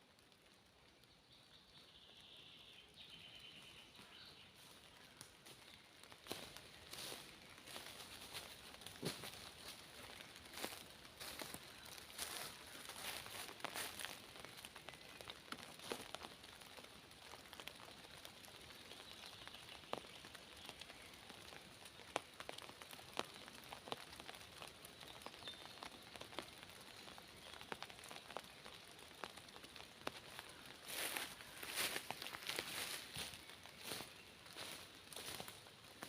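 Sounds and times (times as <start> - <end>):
light rain hiss: 0.0 - 36.0
raindrops ticking on leaves: 0.0 - 36.0.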